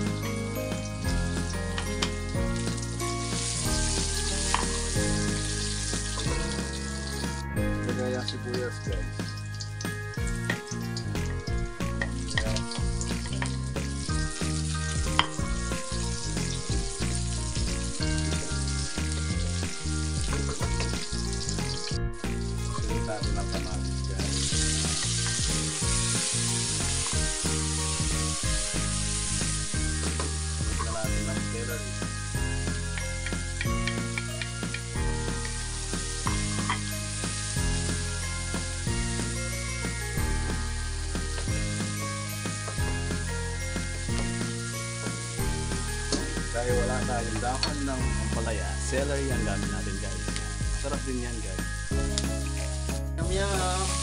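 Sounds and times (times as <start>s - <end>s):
background music: 0.0s - 54.0s
vegetables sizzling in hot oil: 0.0s - 54.0s.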